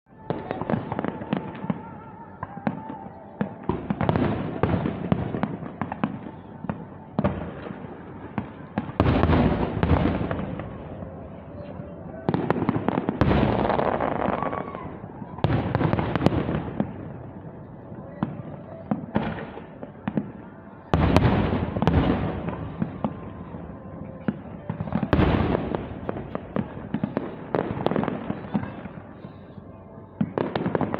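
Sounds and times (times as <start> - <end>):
fireworks booming and crackling: 0.2 - 30.9.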